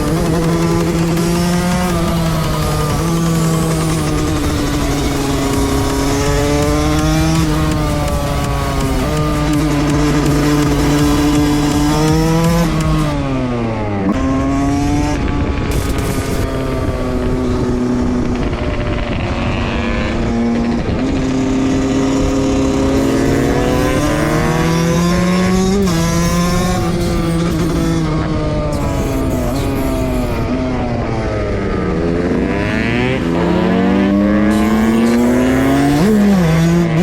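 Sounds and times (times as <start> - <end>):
two-stroke motorcycle engine revving: 0.0 - 37.0.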